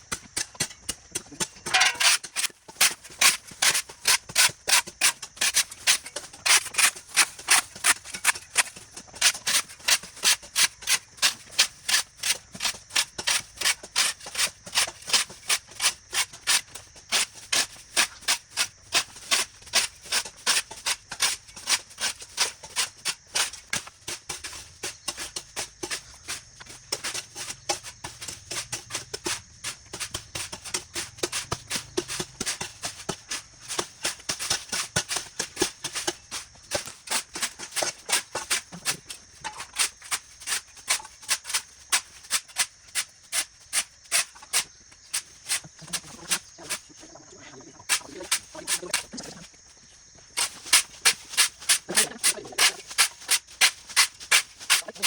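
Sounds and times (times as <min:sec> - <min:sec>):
hand tool scraping ground: 0:00.0 - 0:55.0.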